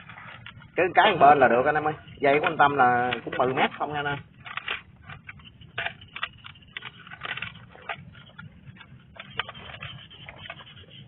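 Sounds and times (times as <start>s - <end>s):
cable handling rustle: 0.0s - 11.0s.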